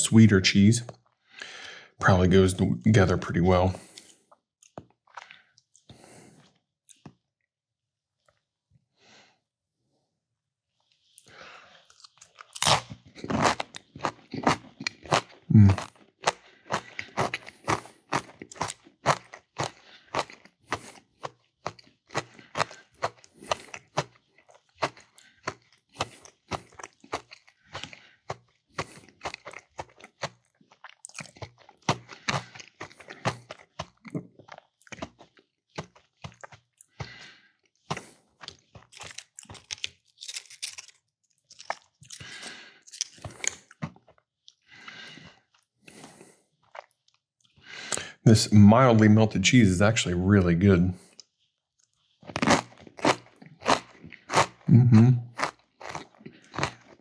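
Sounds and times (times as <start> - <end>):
person chewing crunchy food: 3.7 - 7.2, 10.8 - 48.2, 51.0 - 57.0.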